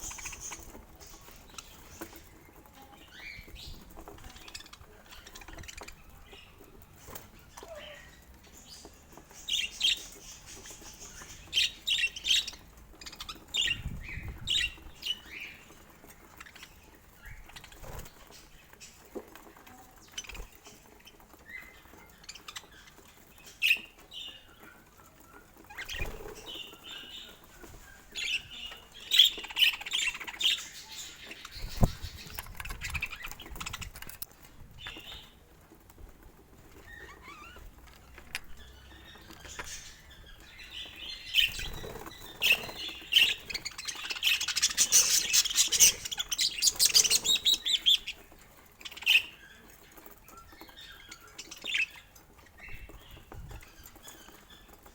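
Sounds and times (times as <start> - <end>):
budgerigars chirping: 0.0 - 19.2, 20.0 - 35.4, 36.7 - 54.9.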